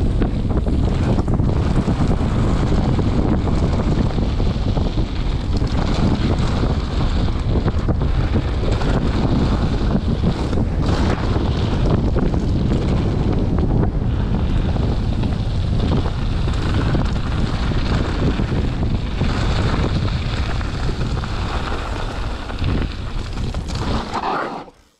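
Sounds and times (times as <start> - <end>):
wind buffeting microphone: 0.0 - 24.1.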